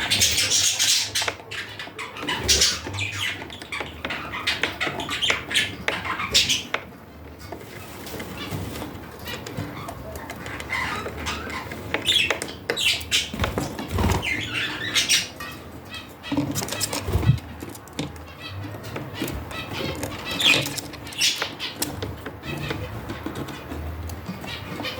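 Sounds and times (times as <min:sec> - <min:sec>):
budgerigars chirping: 0:00.0 - 0:24.9.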